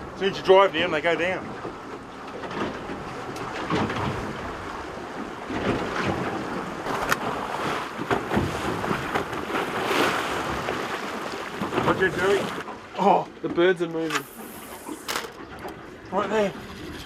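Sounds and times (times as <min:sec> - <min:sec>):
water slapping against boat hull: 0:01.2 - 0:17.0.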